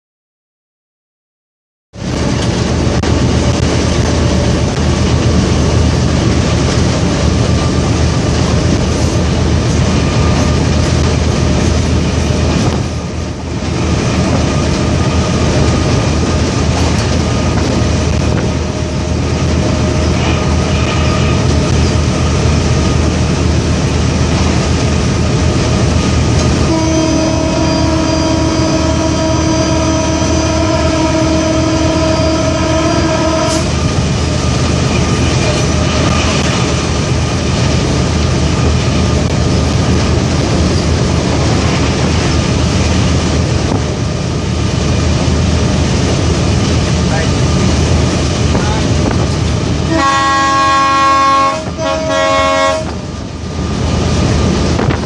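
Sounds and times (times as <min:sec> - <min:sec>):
locomotive engine hum: 0:02.0 - 0:55.0.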